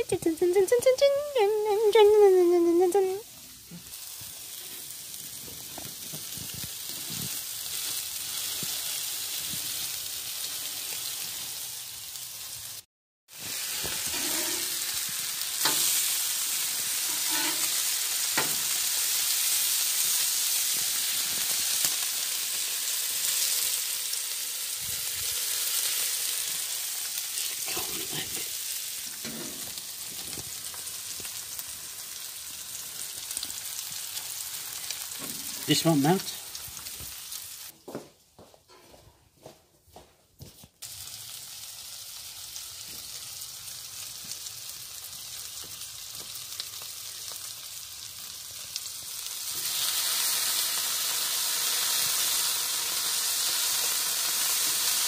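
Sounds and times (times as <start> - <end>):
meat sizzling on a griddle: 2.0 - 37.7, 40.8 - 55.0.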